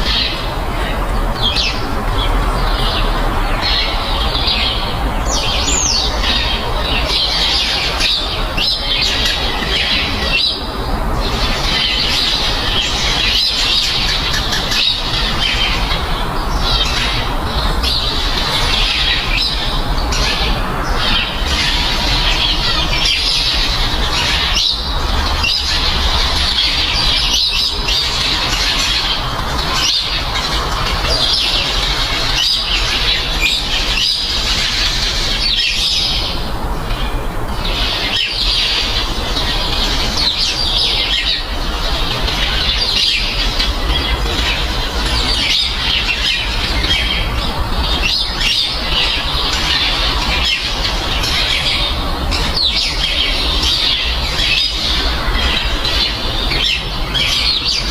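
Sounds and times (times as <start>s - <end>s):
high bird calls and squawks: 0.0s - 57.9s.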